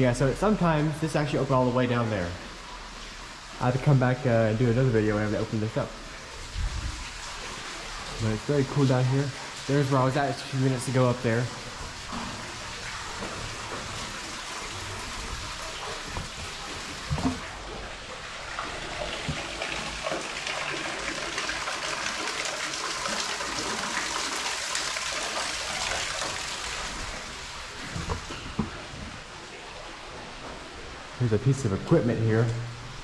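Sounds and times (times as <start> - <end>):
water running and trickling: 0.0 - 33.0.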